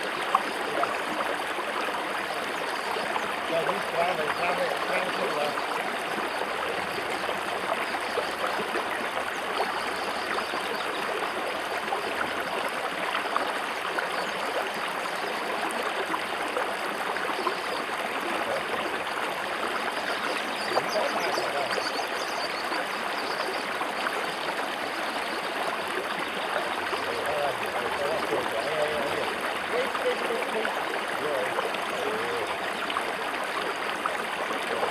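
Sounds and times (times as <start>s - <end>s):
river water rushing over rocks: 0.0s - 34.9s
small water splashes: 0.0s - 34.9s.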